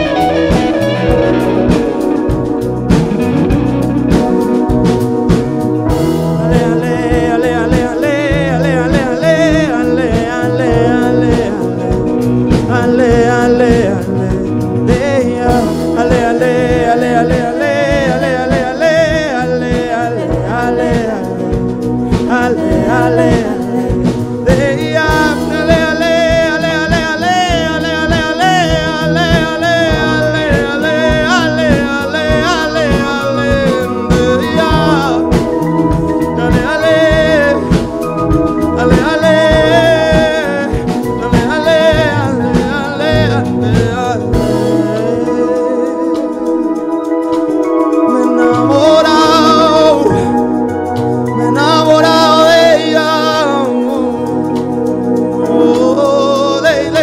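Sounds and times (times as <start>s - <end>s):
drum kit: 0.0s - 57.0s
electric guitar: 0.0s - 57.0s
man singing: 0.0s - 57.0s.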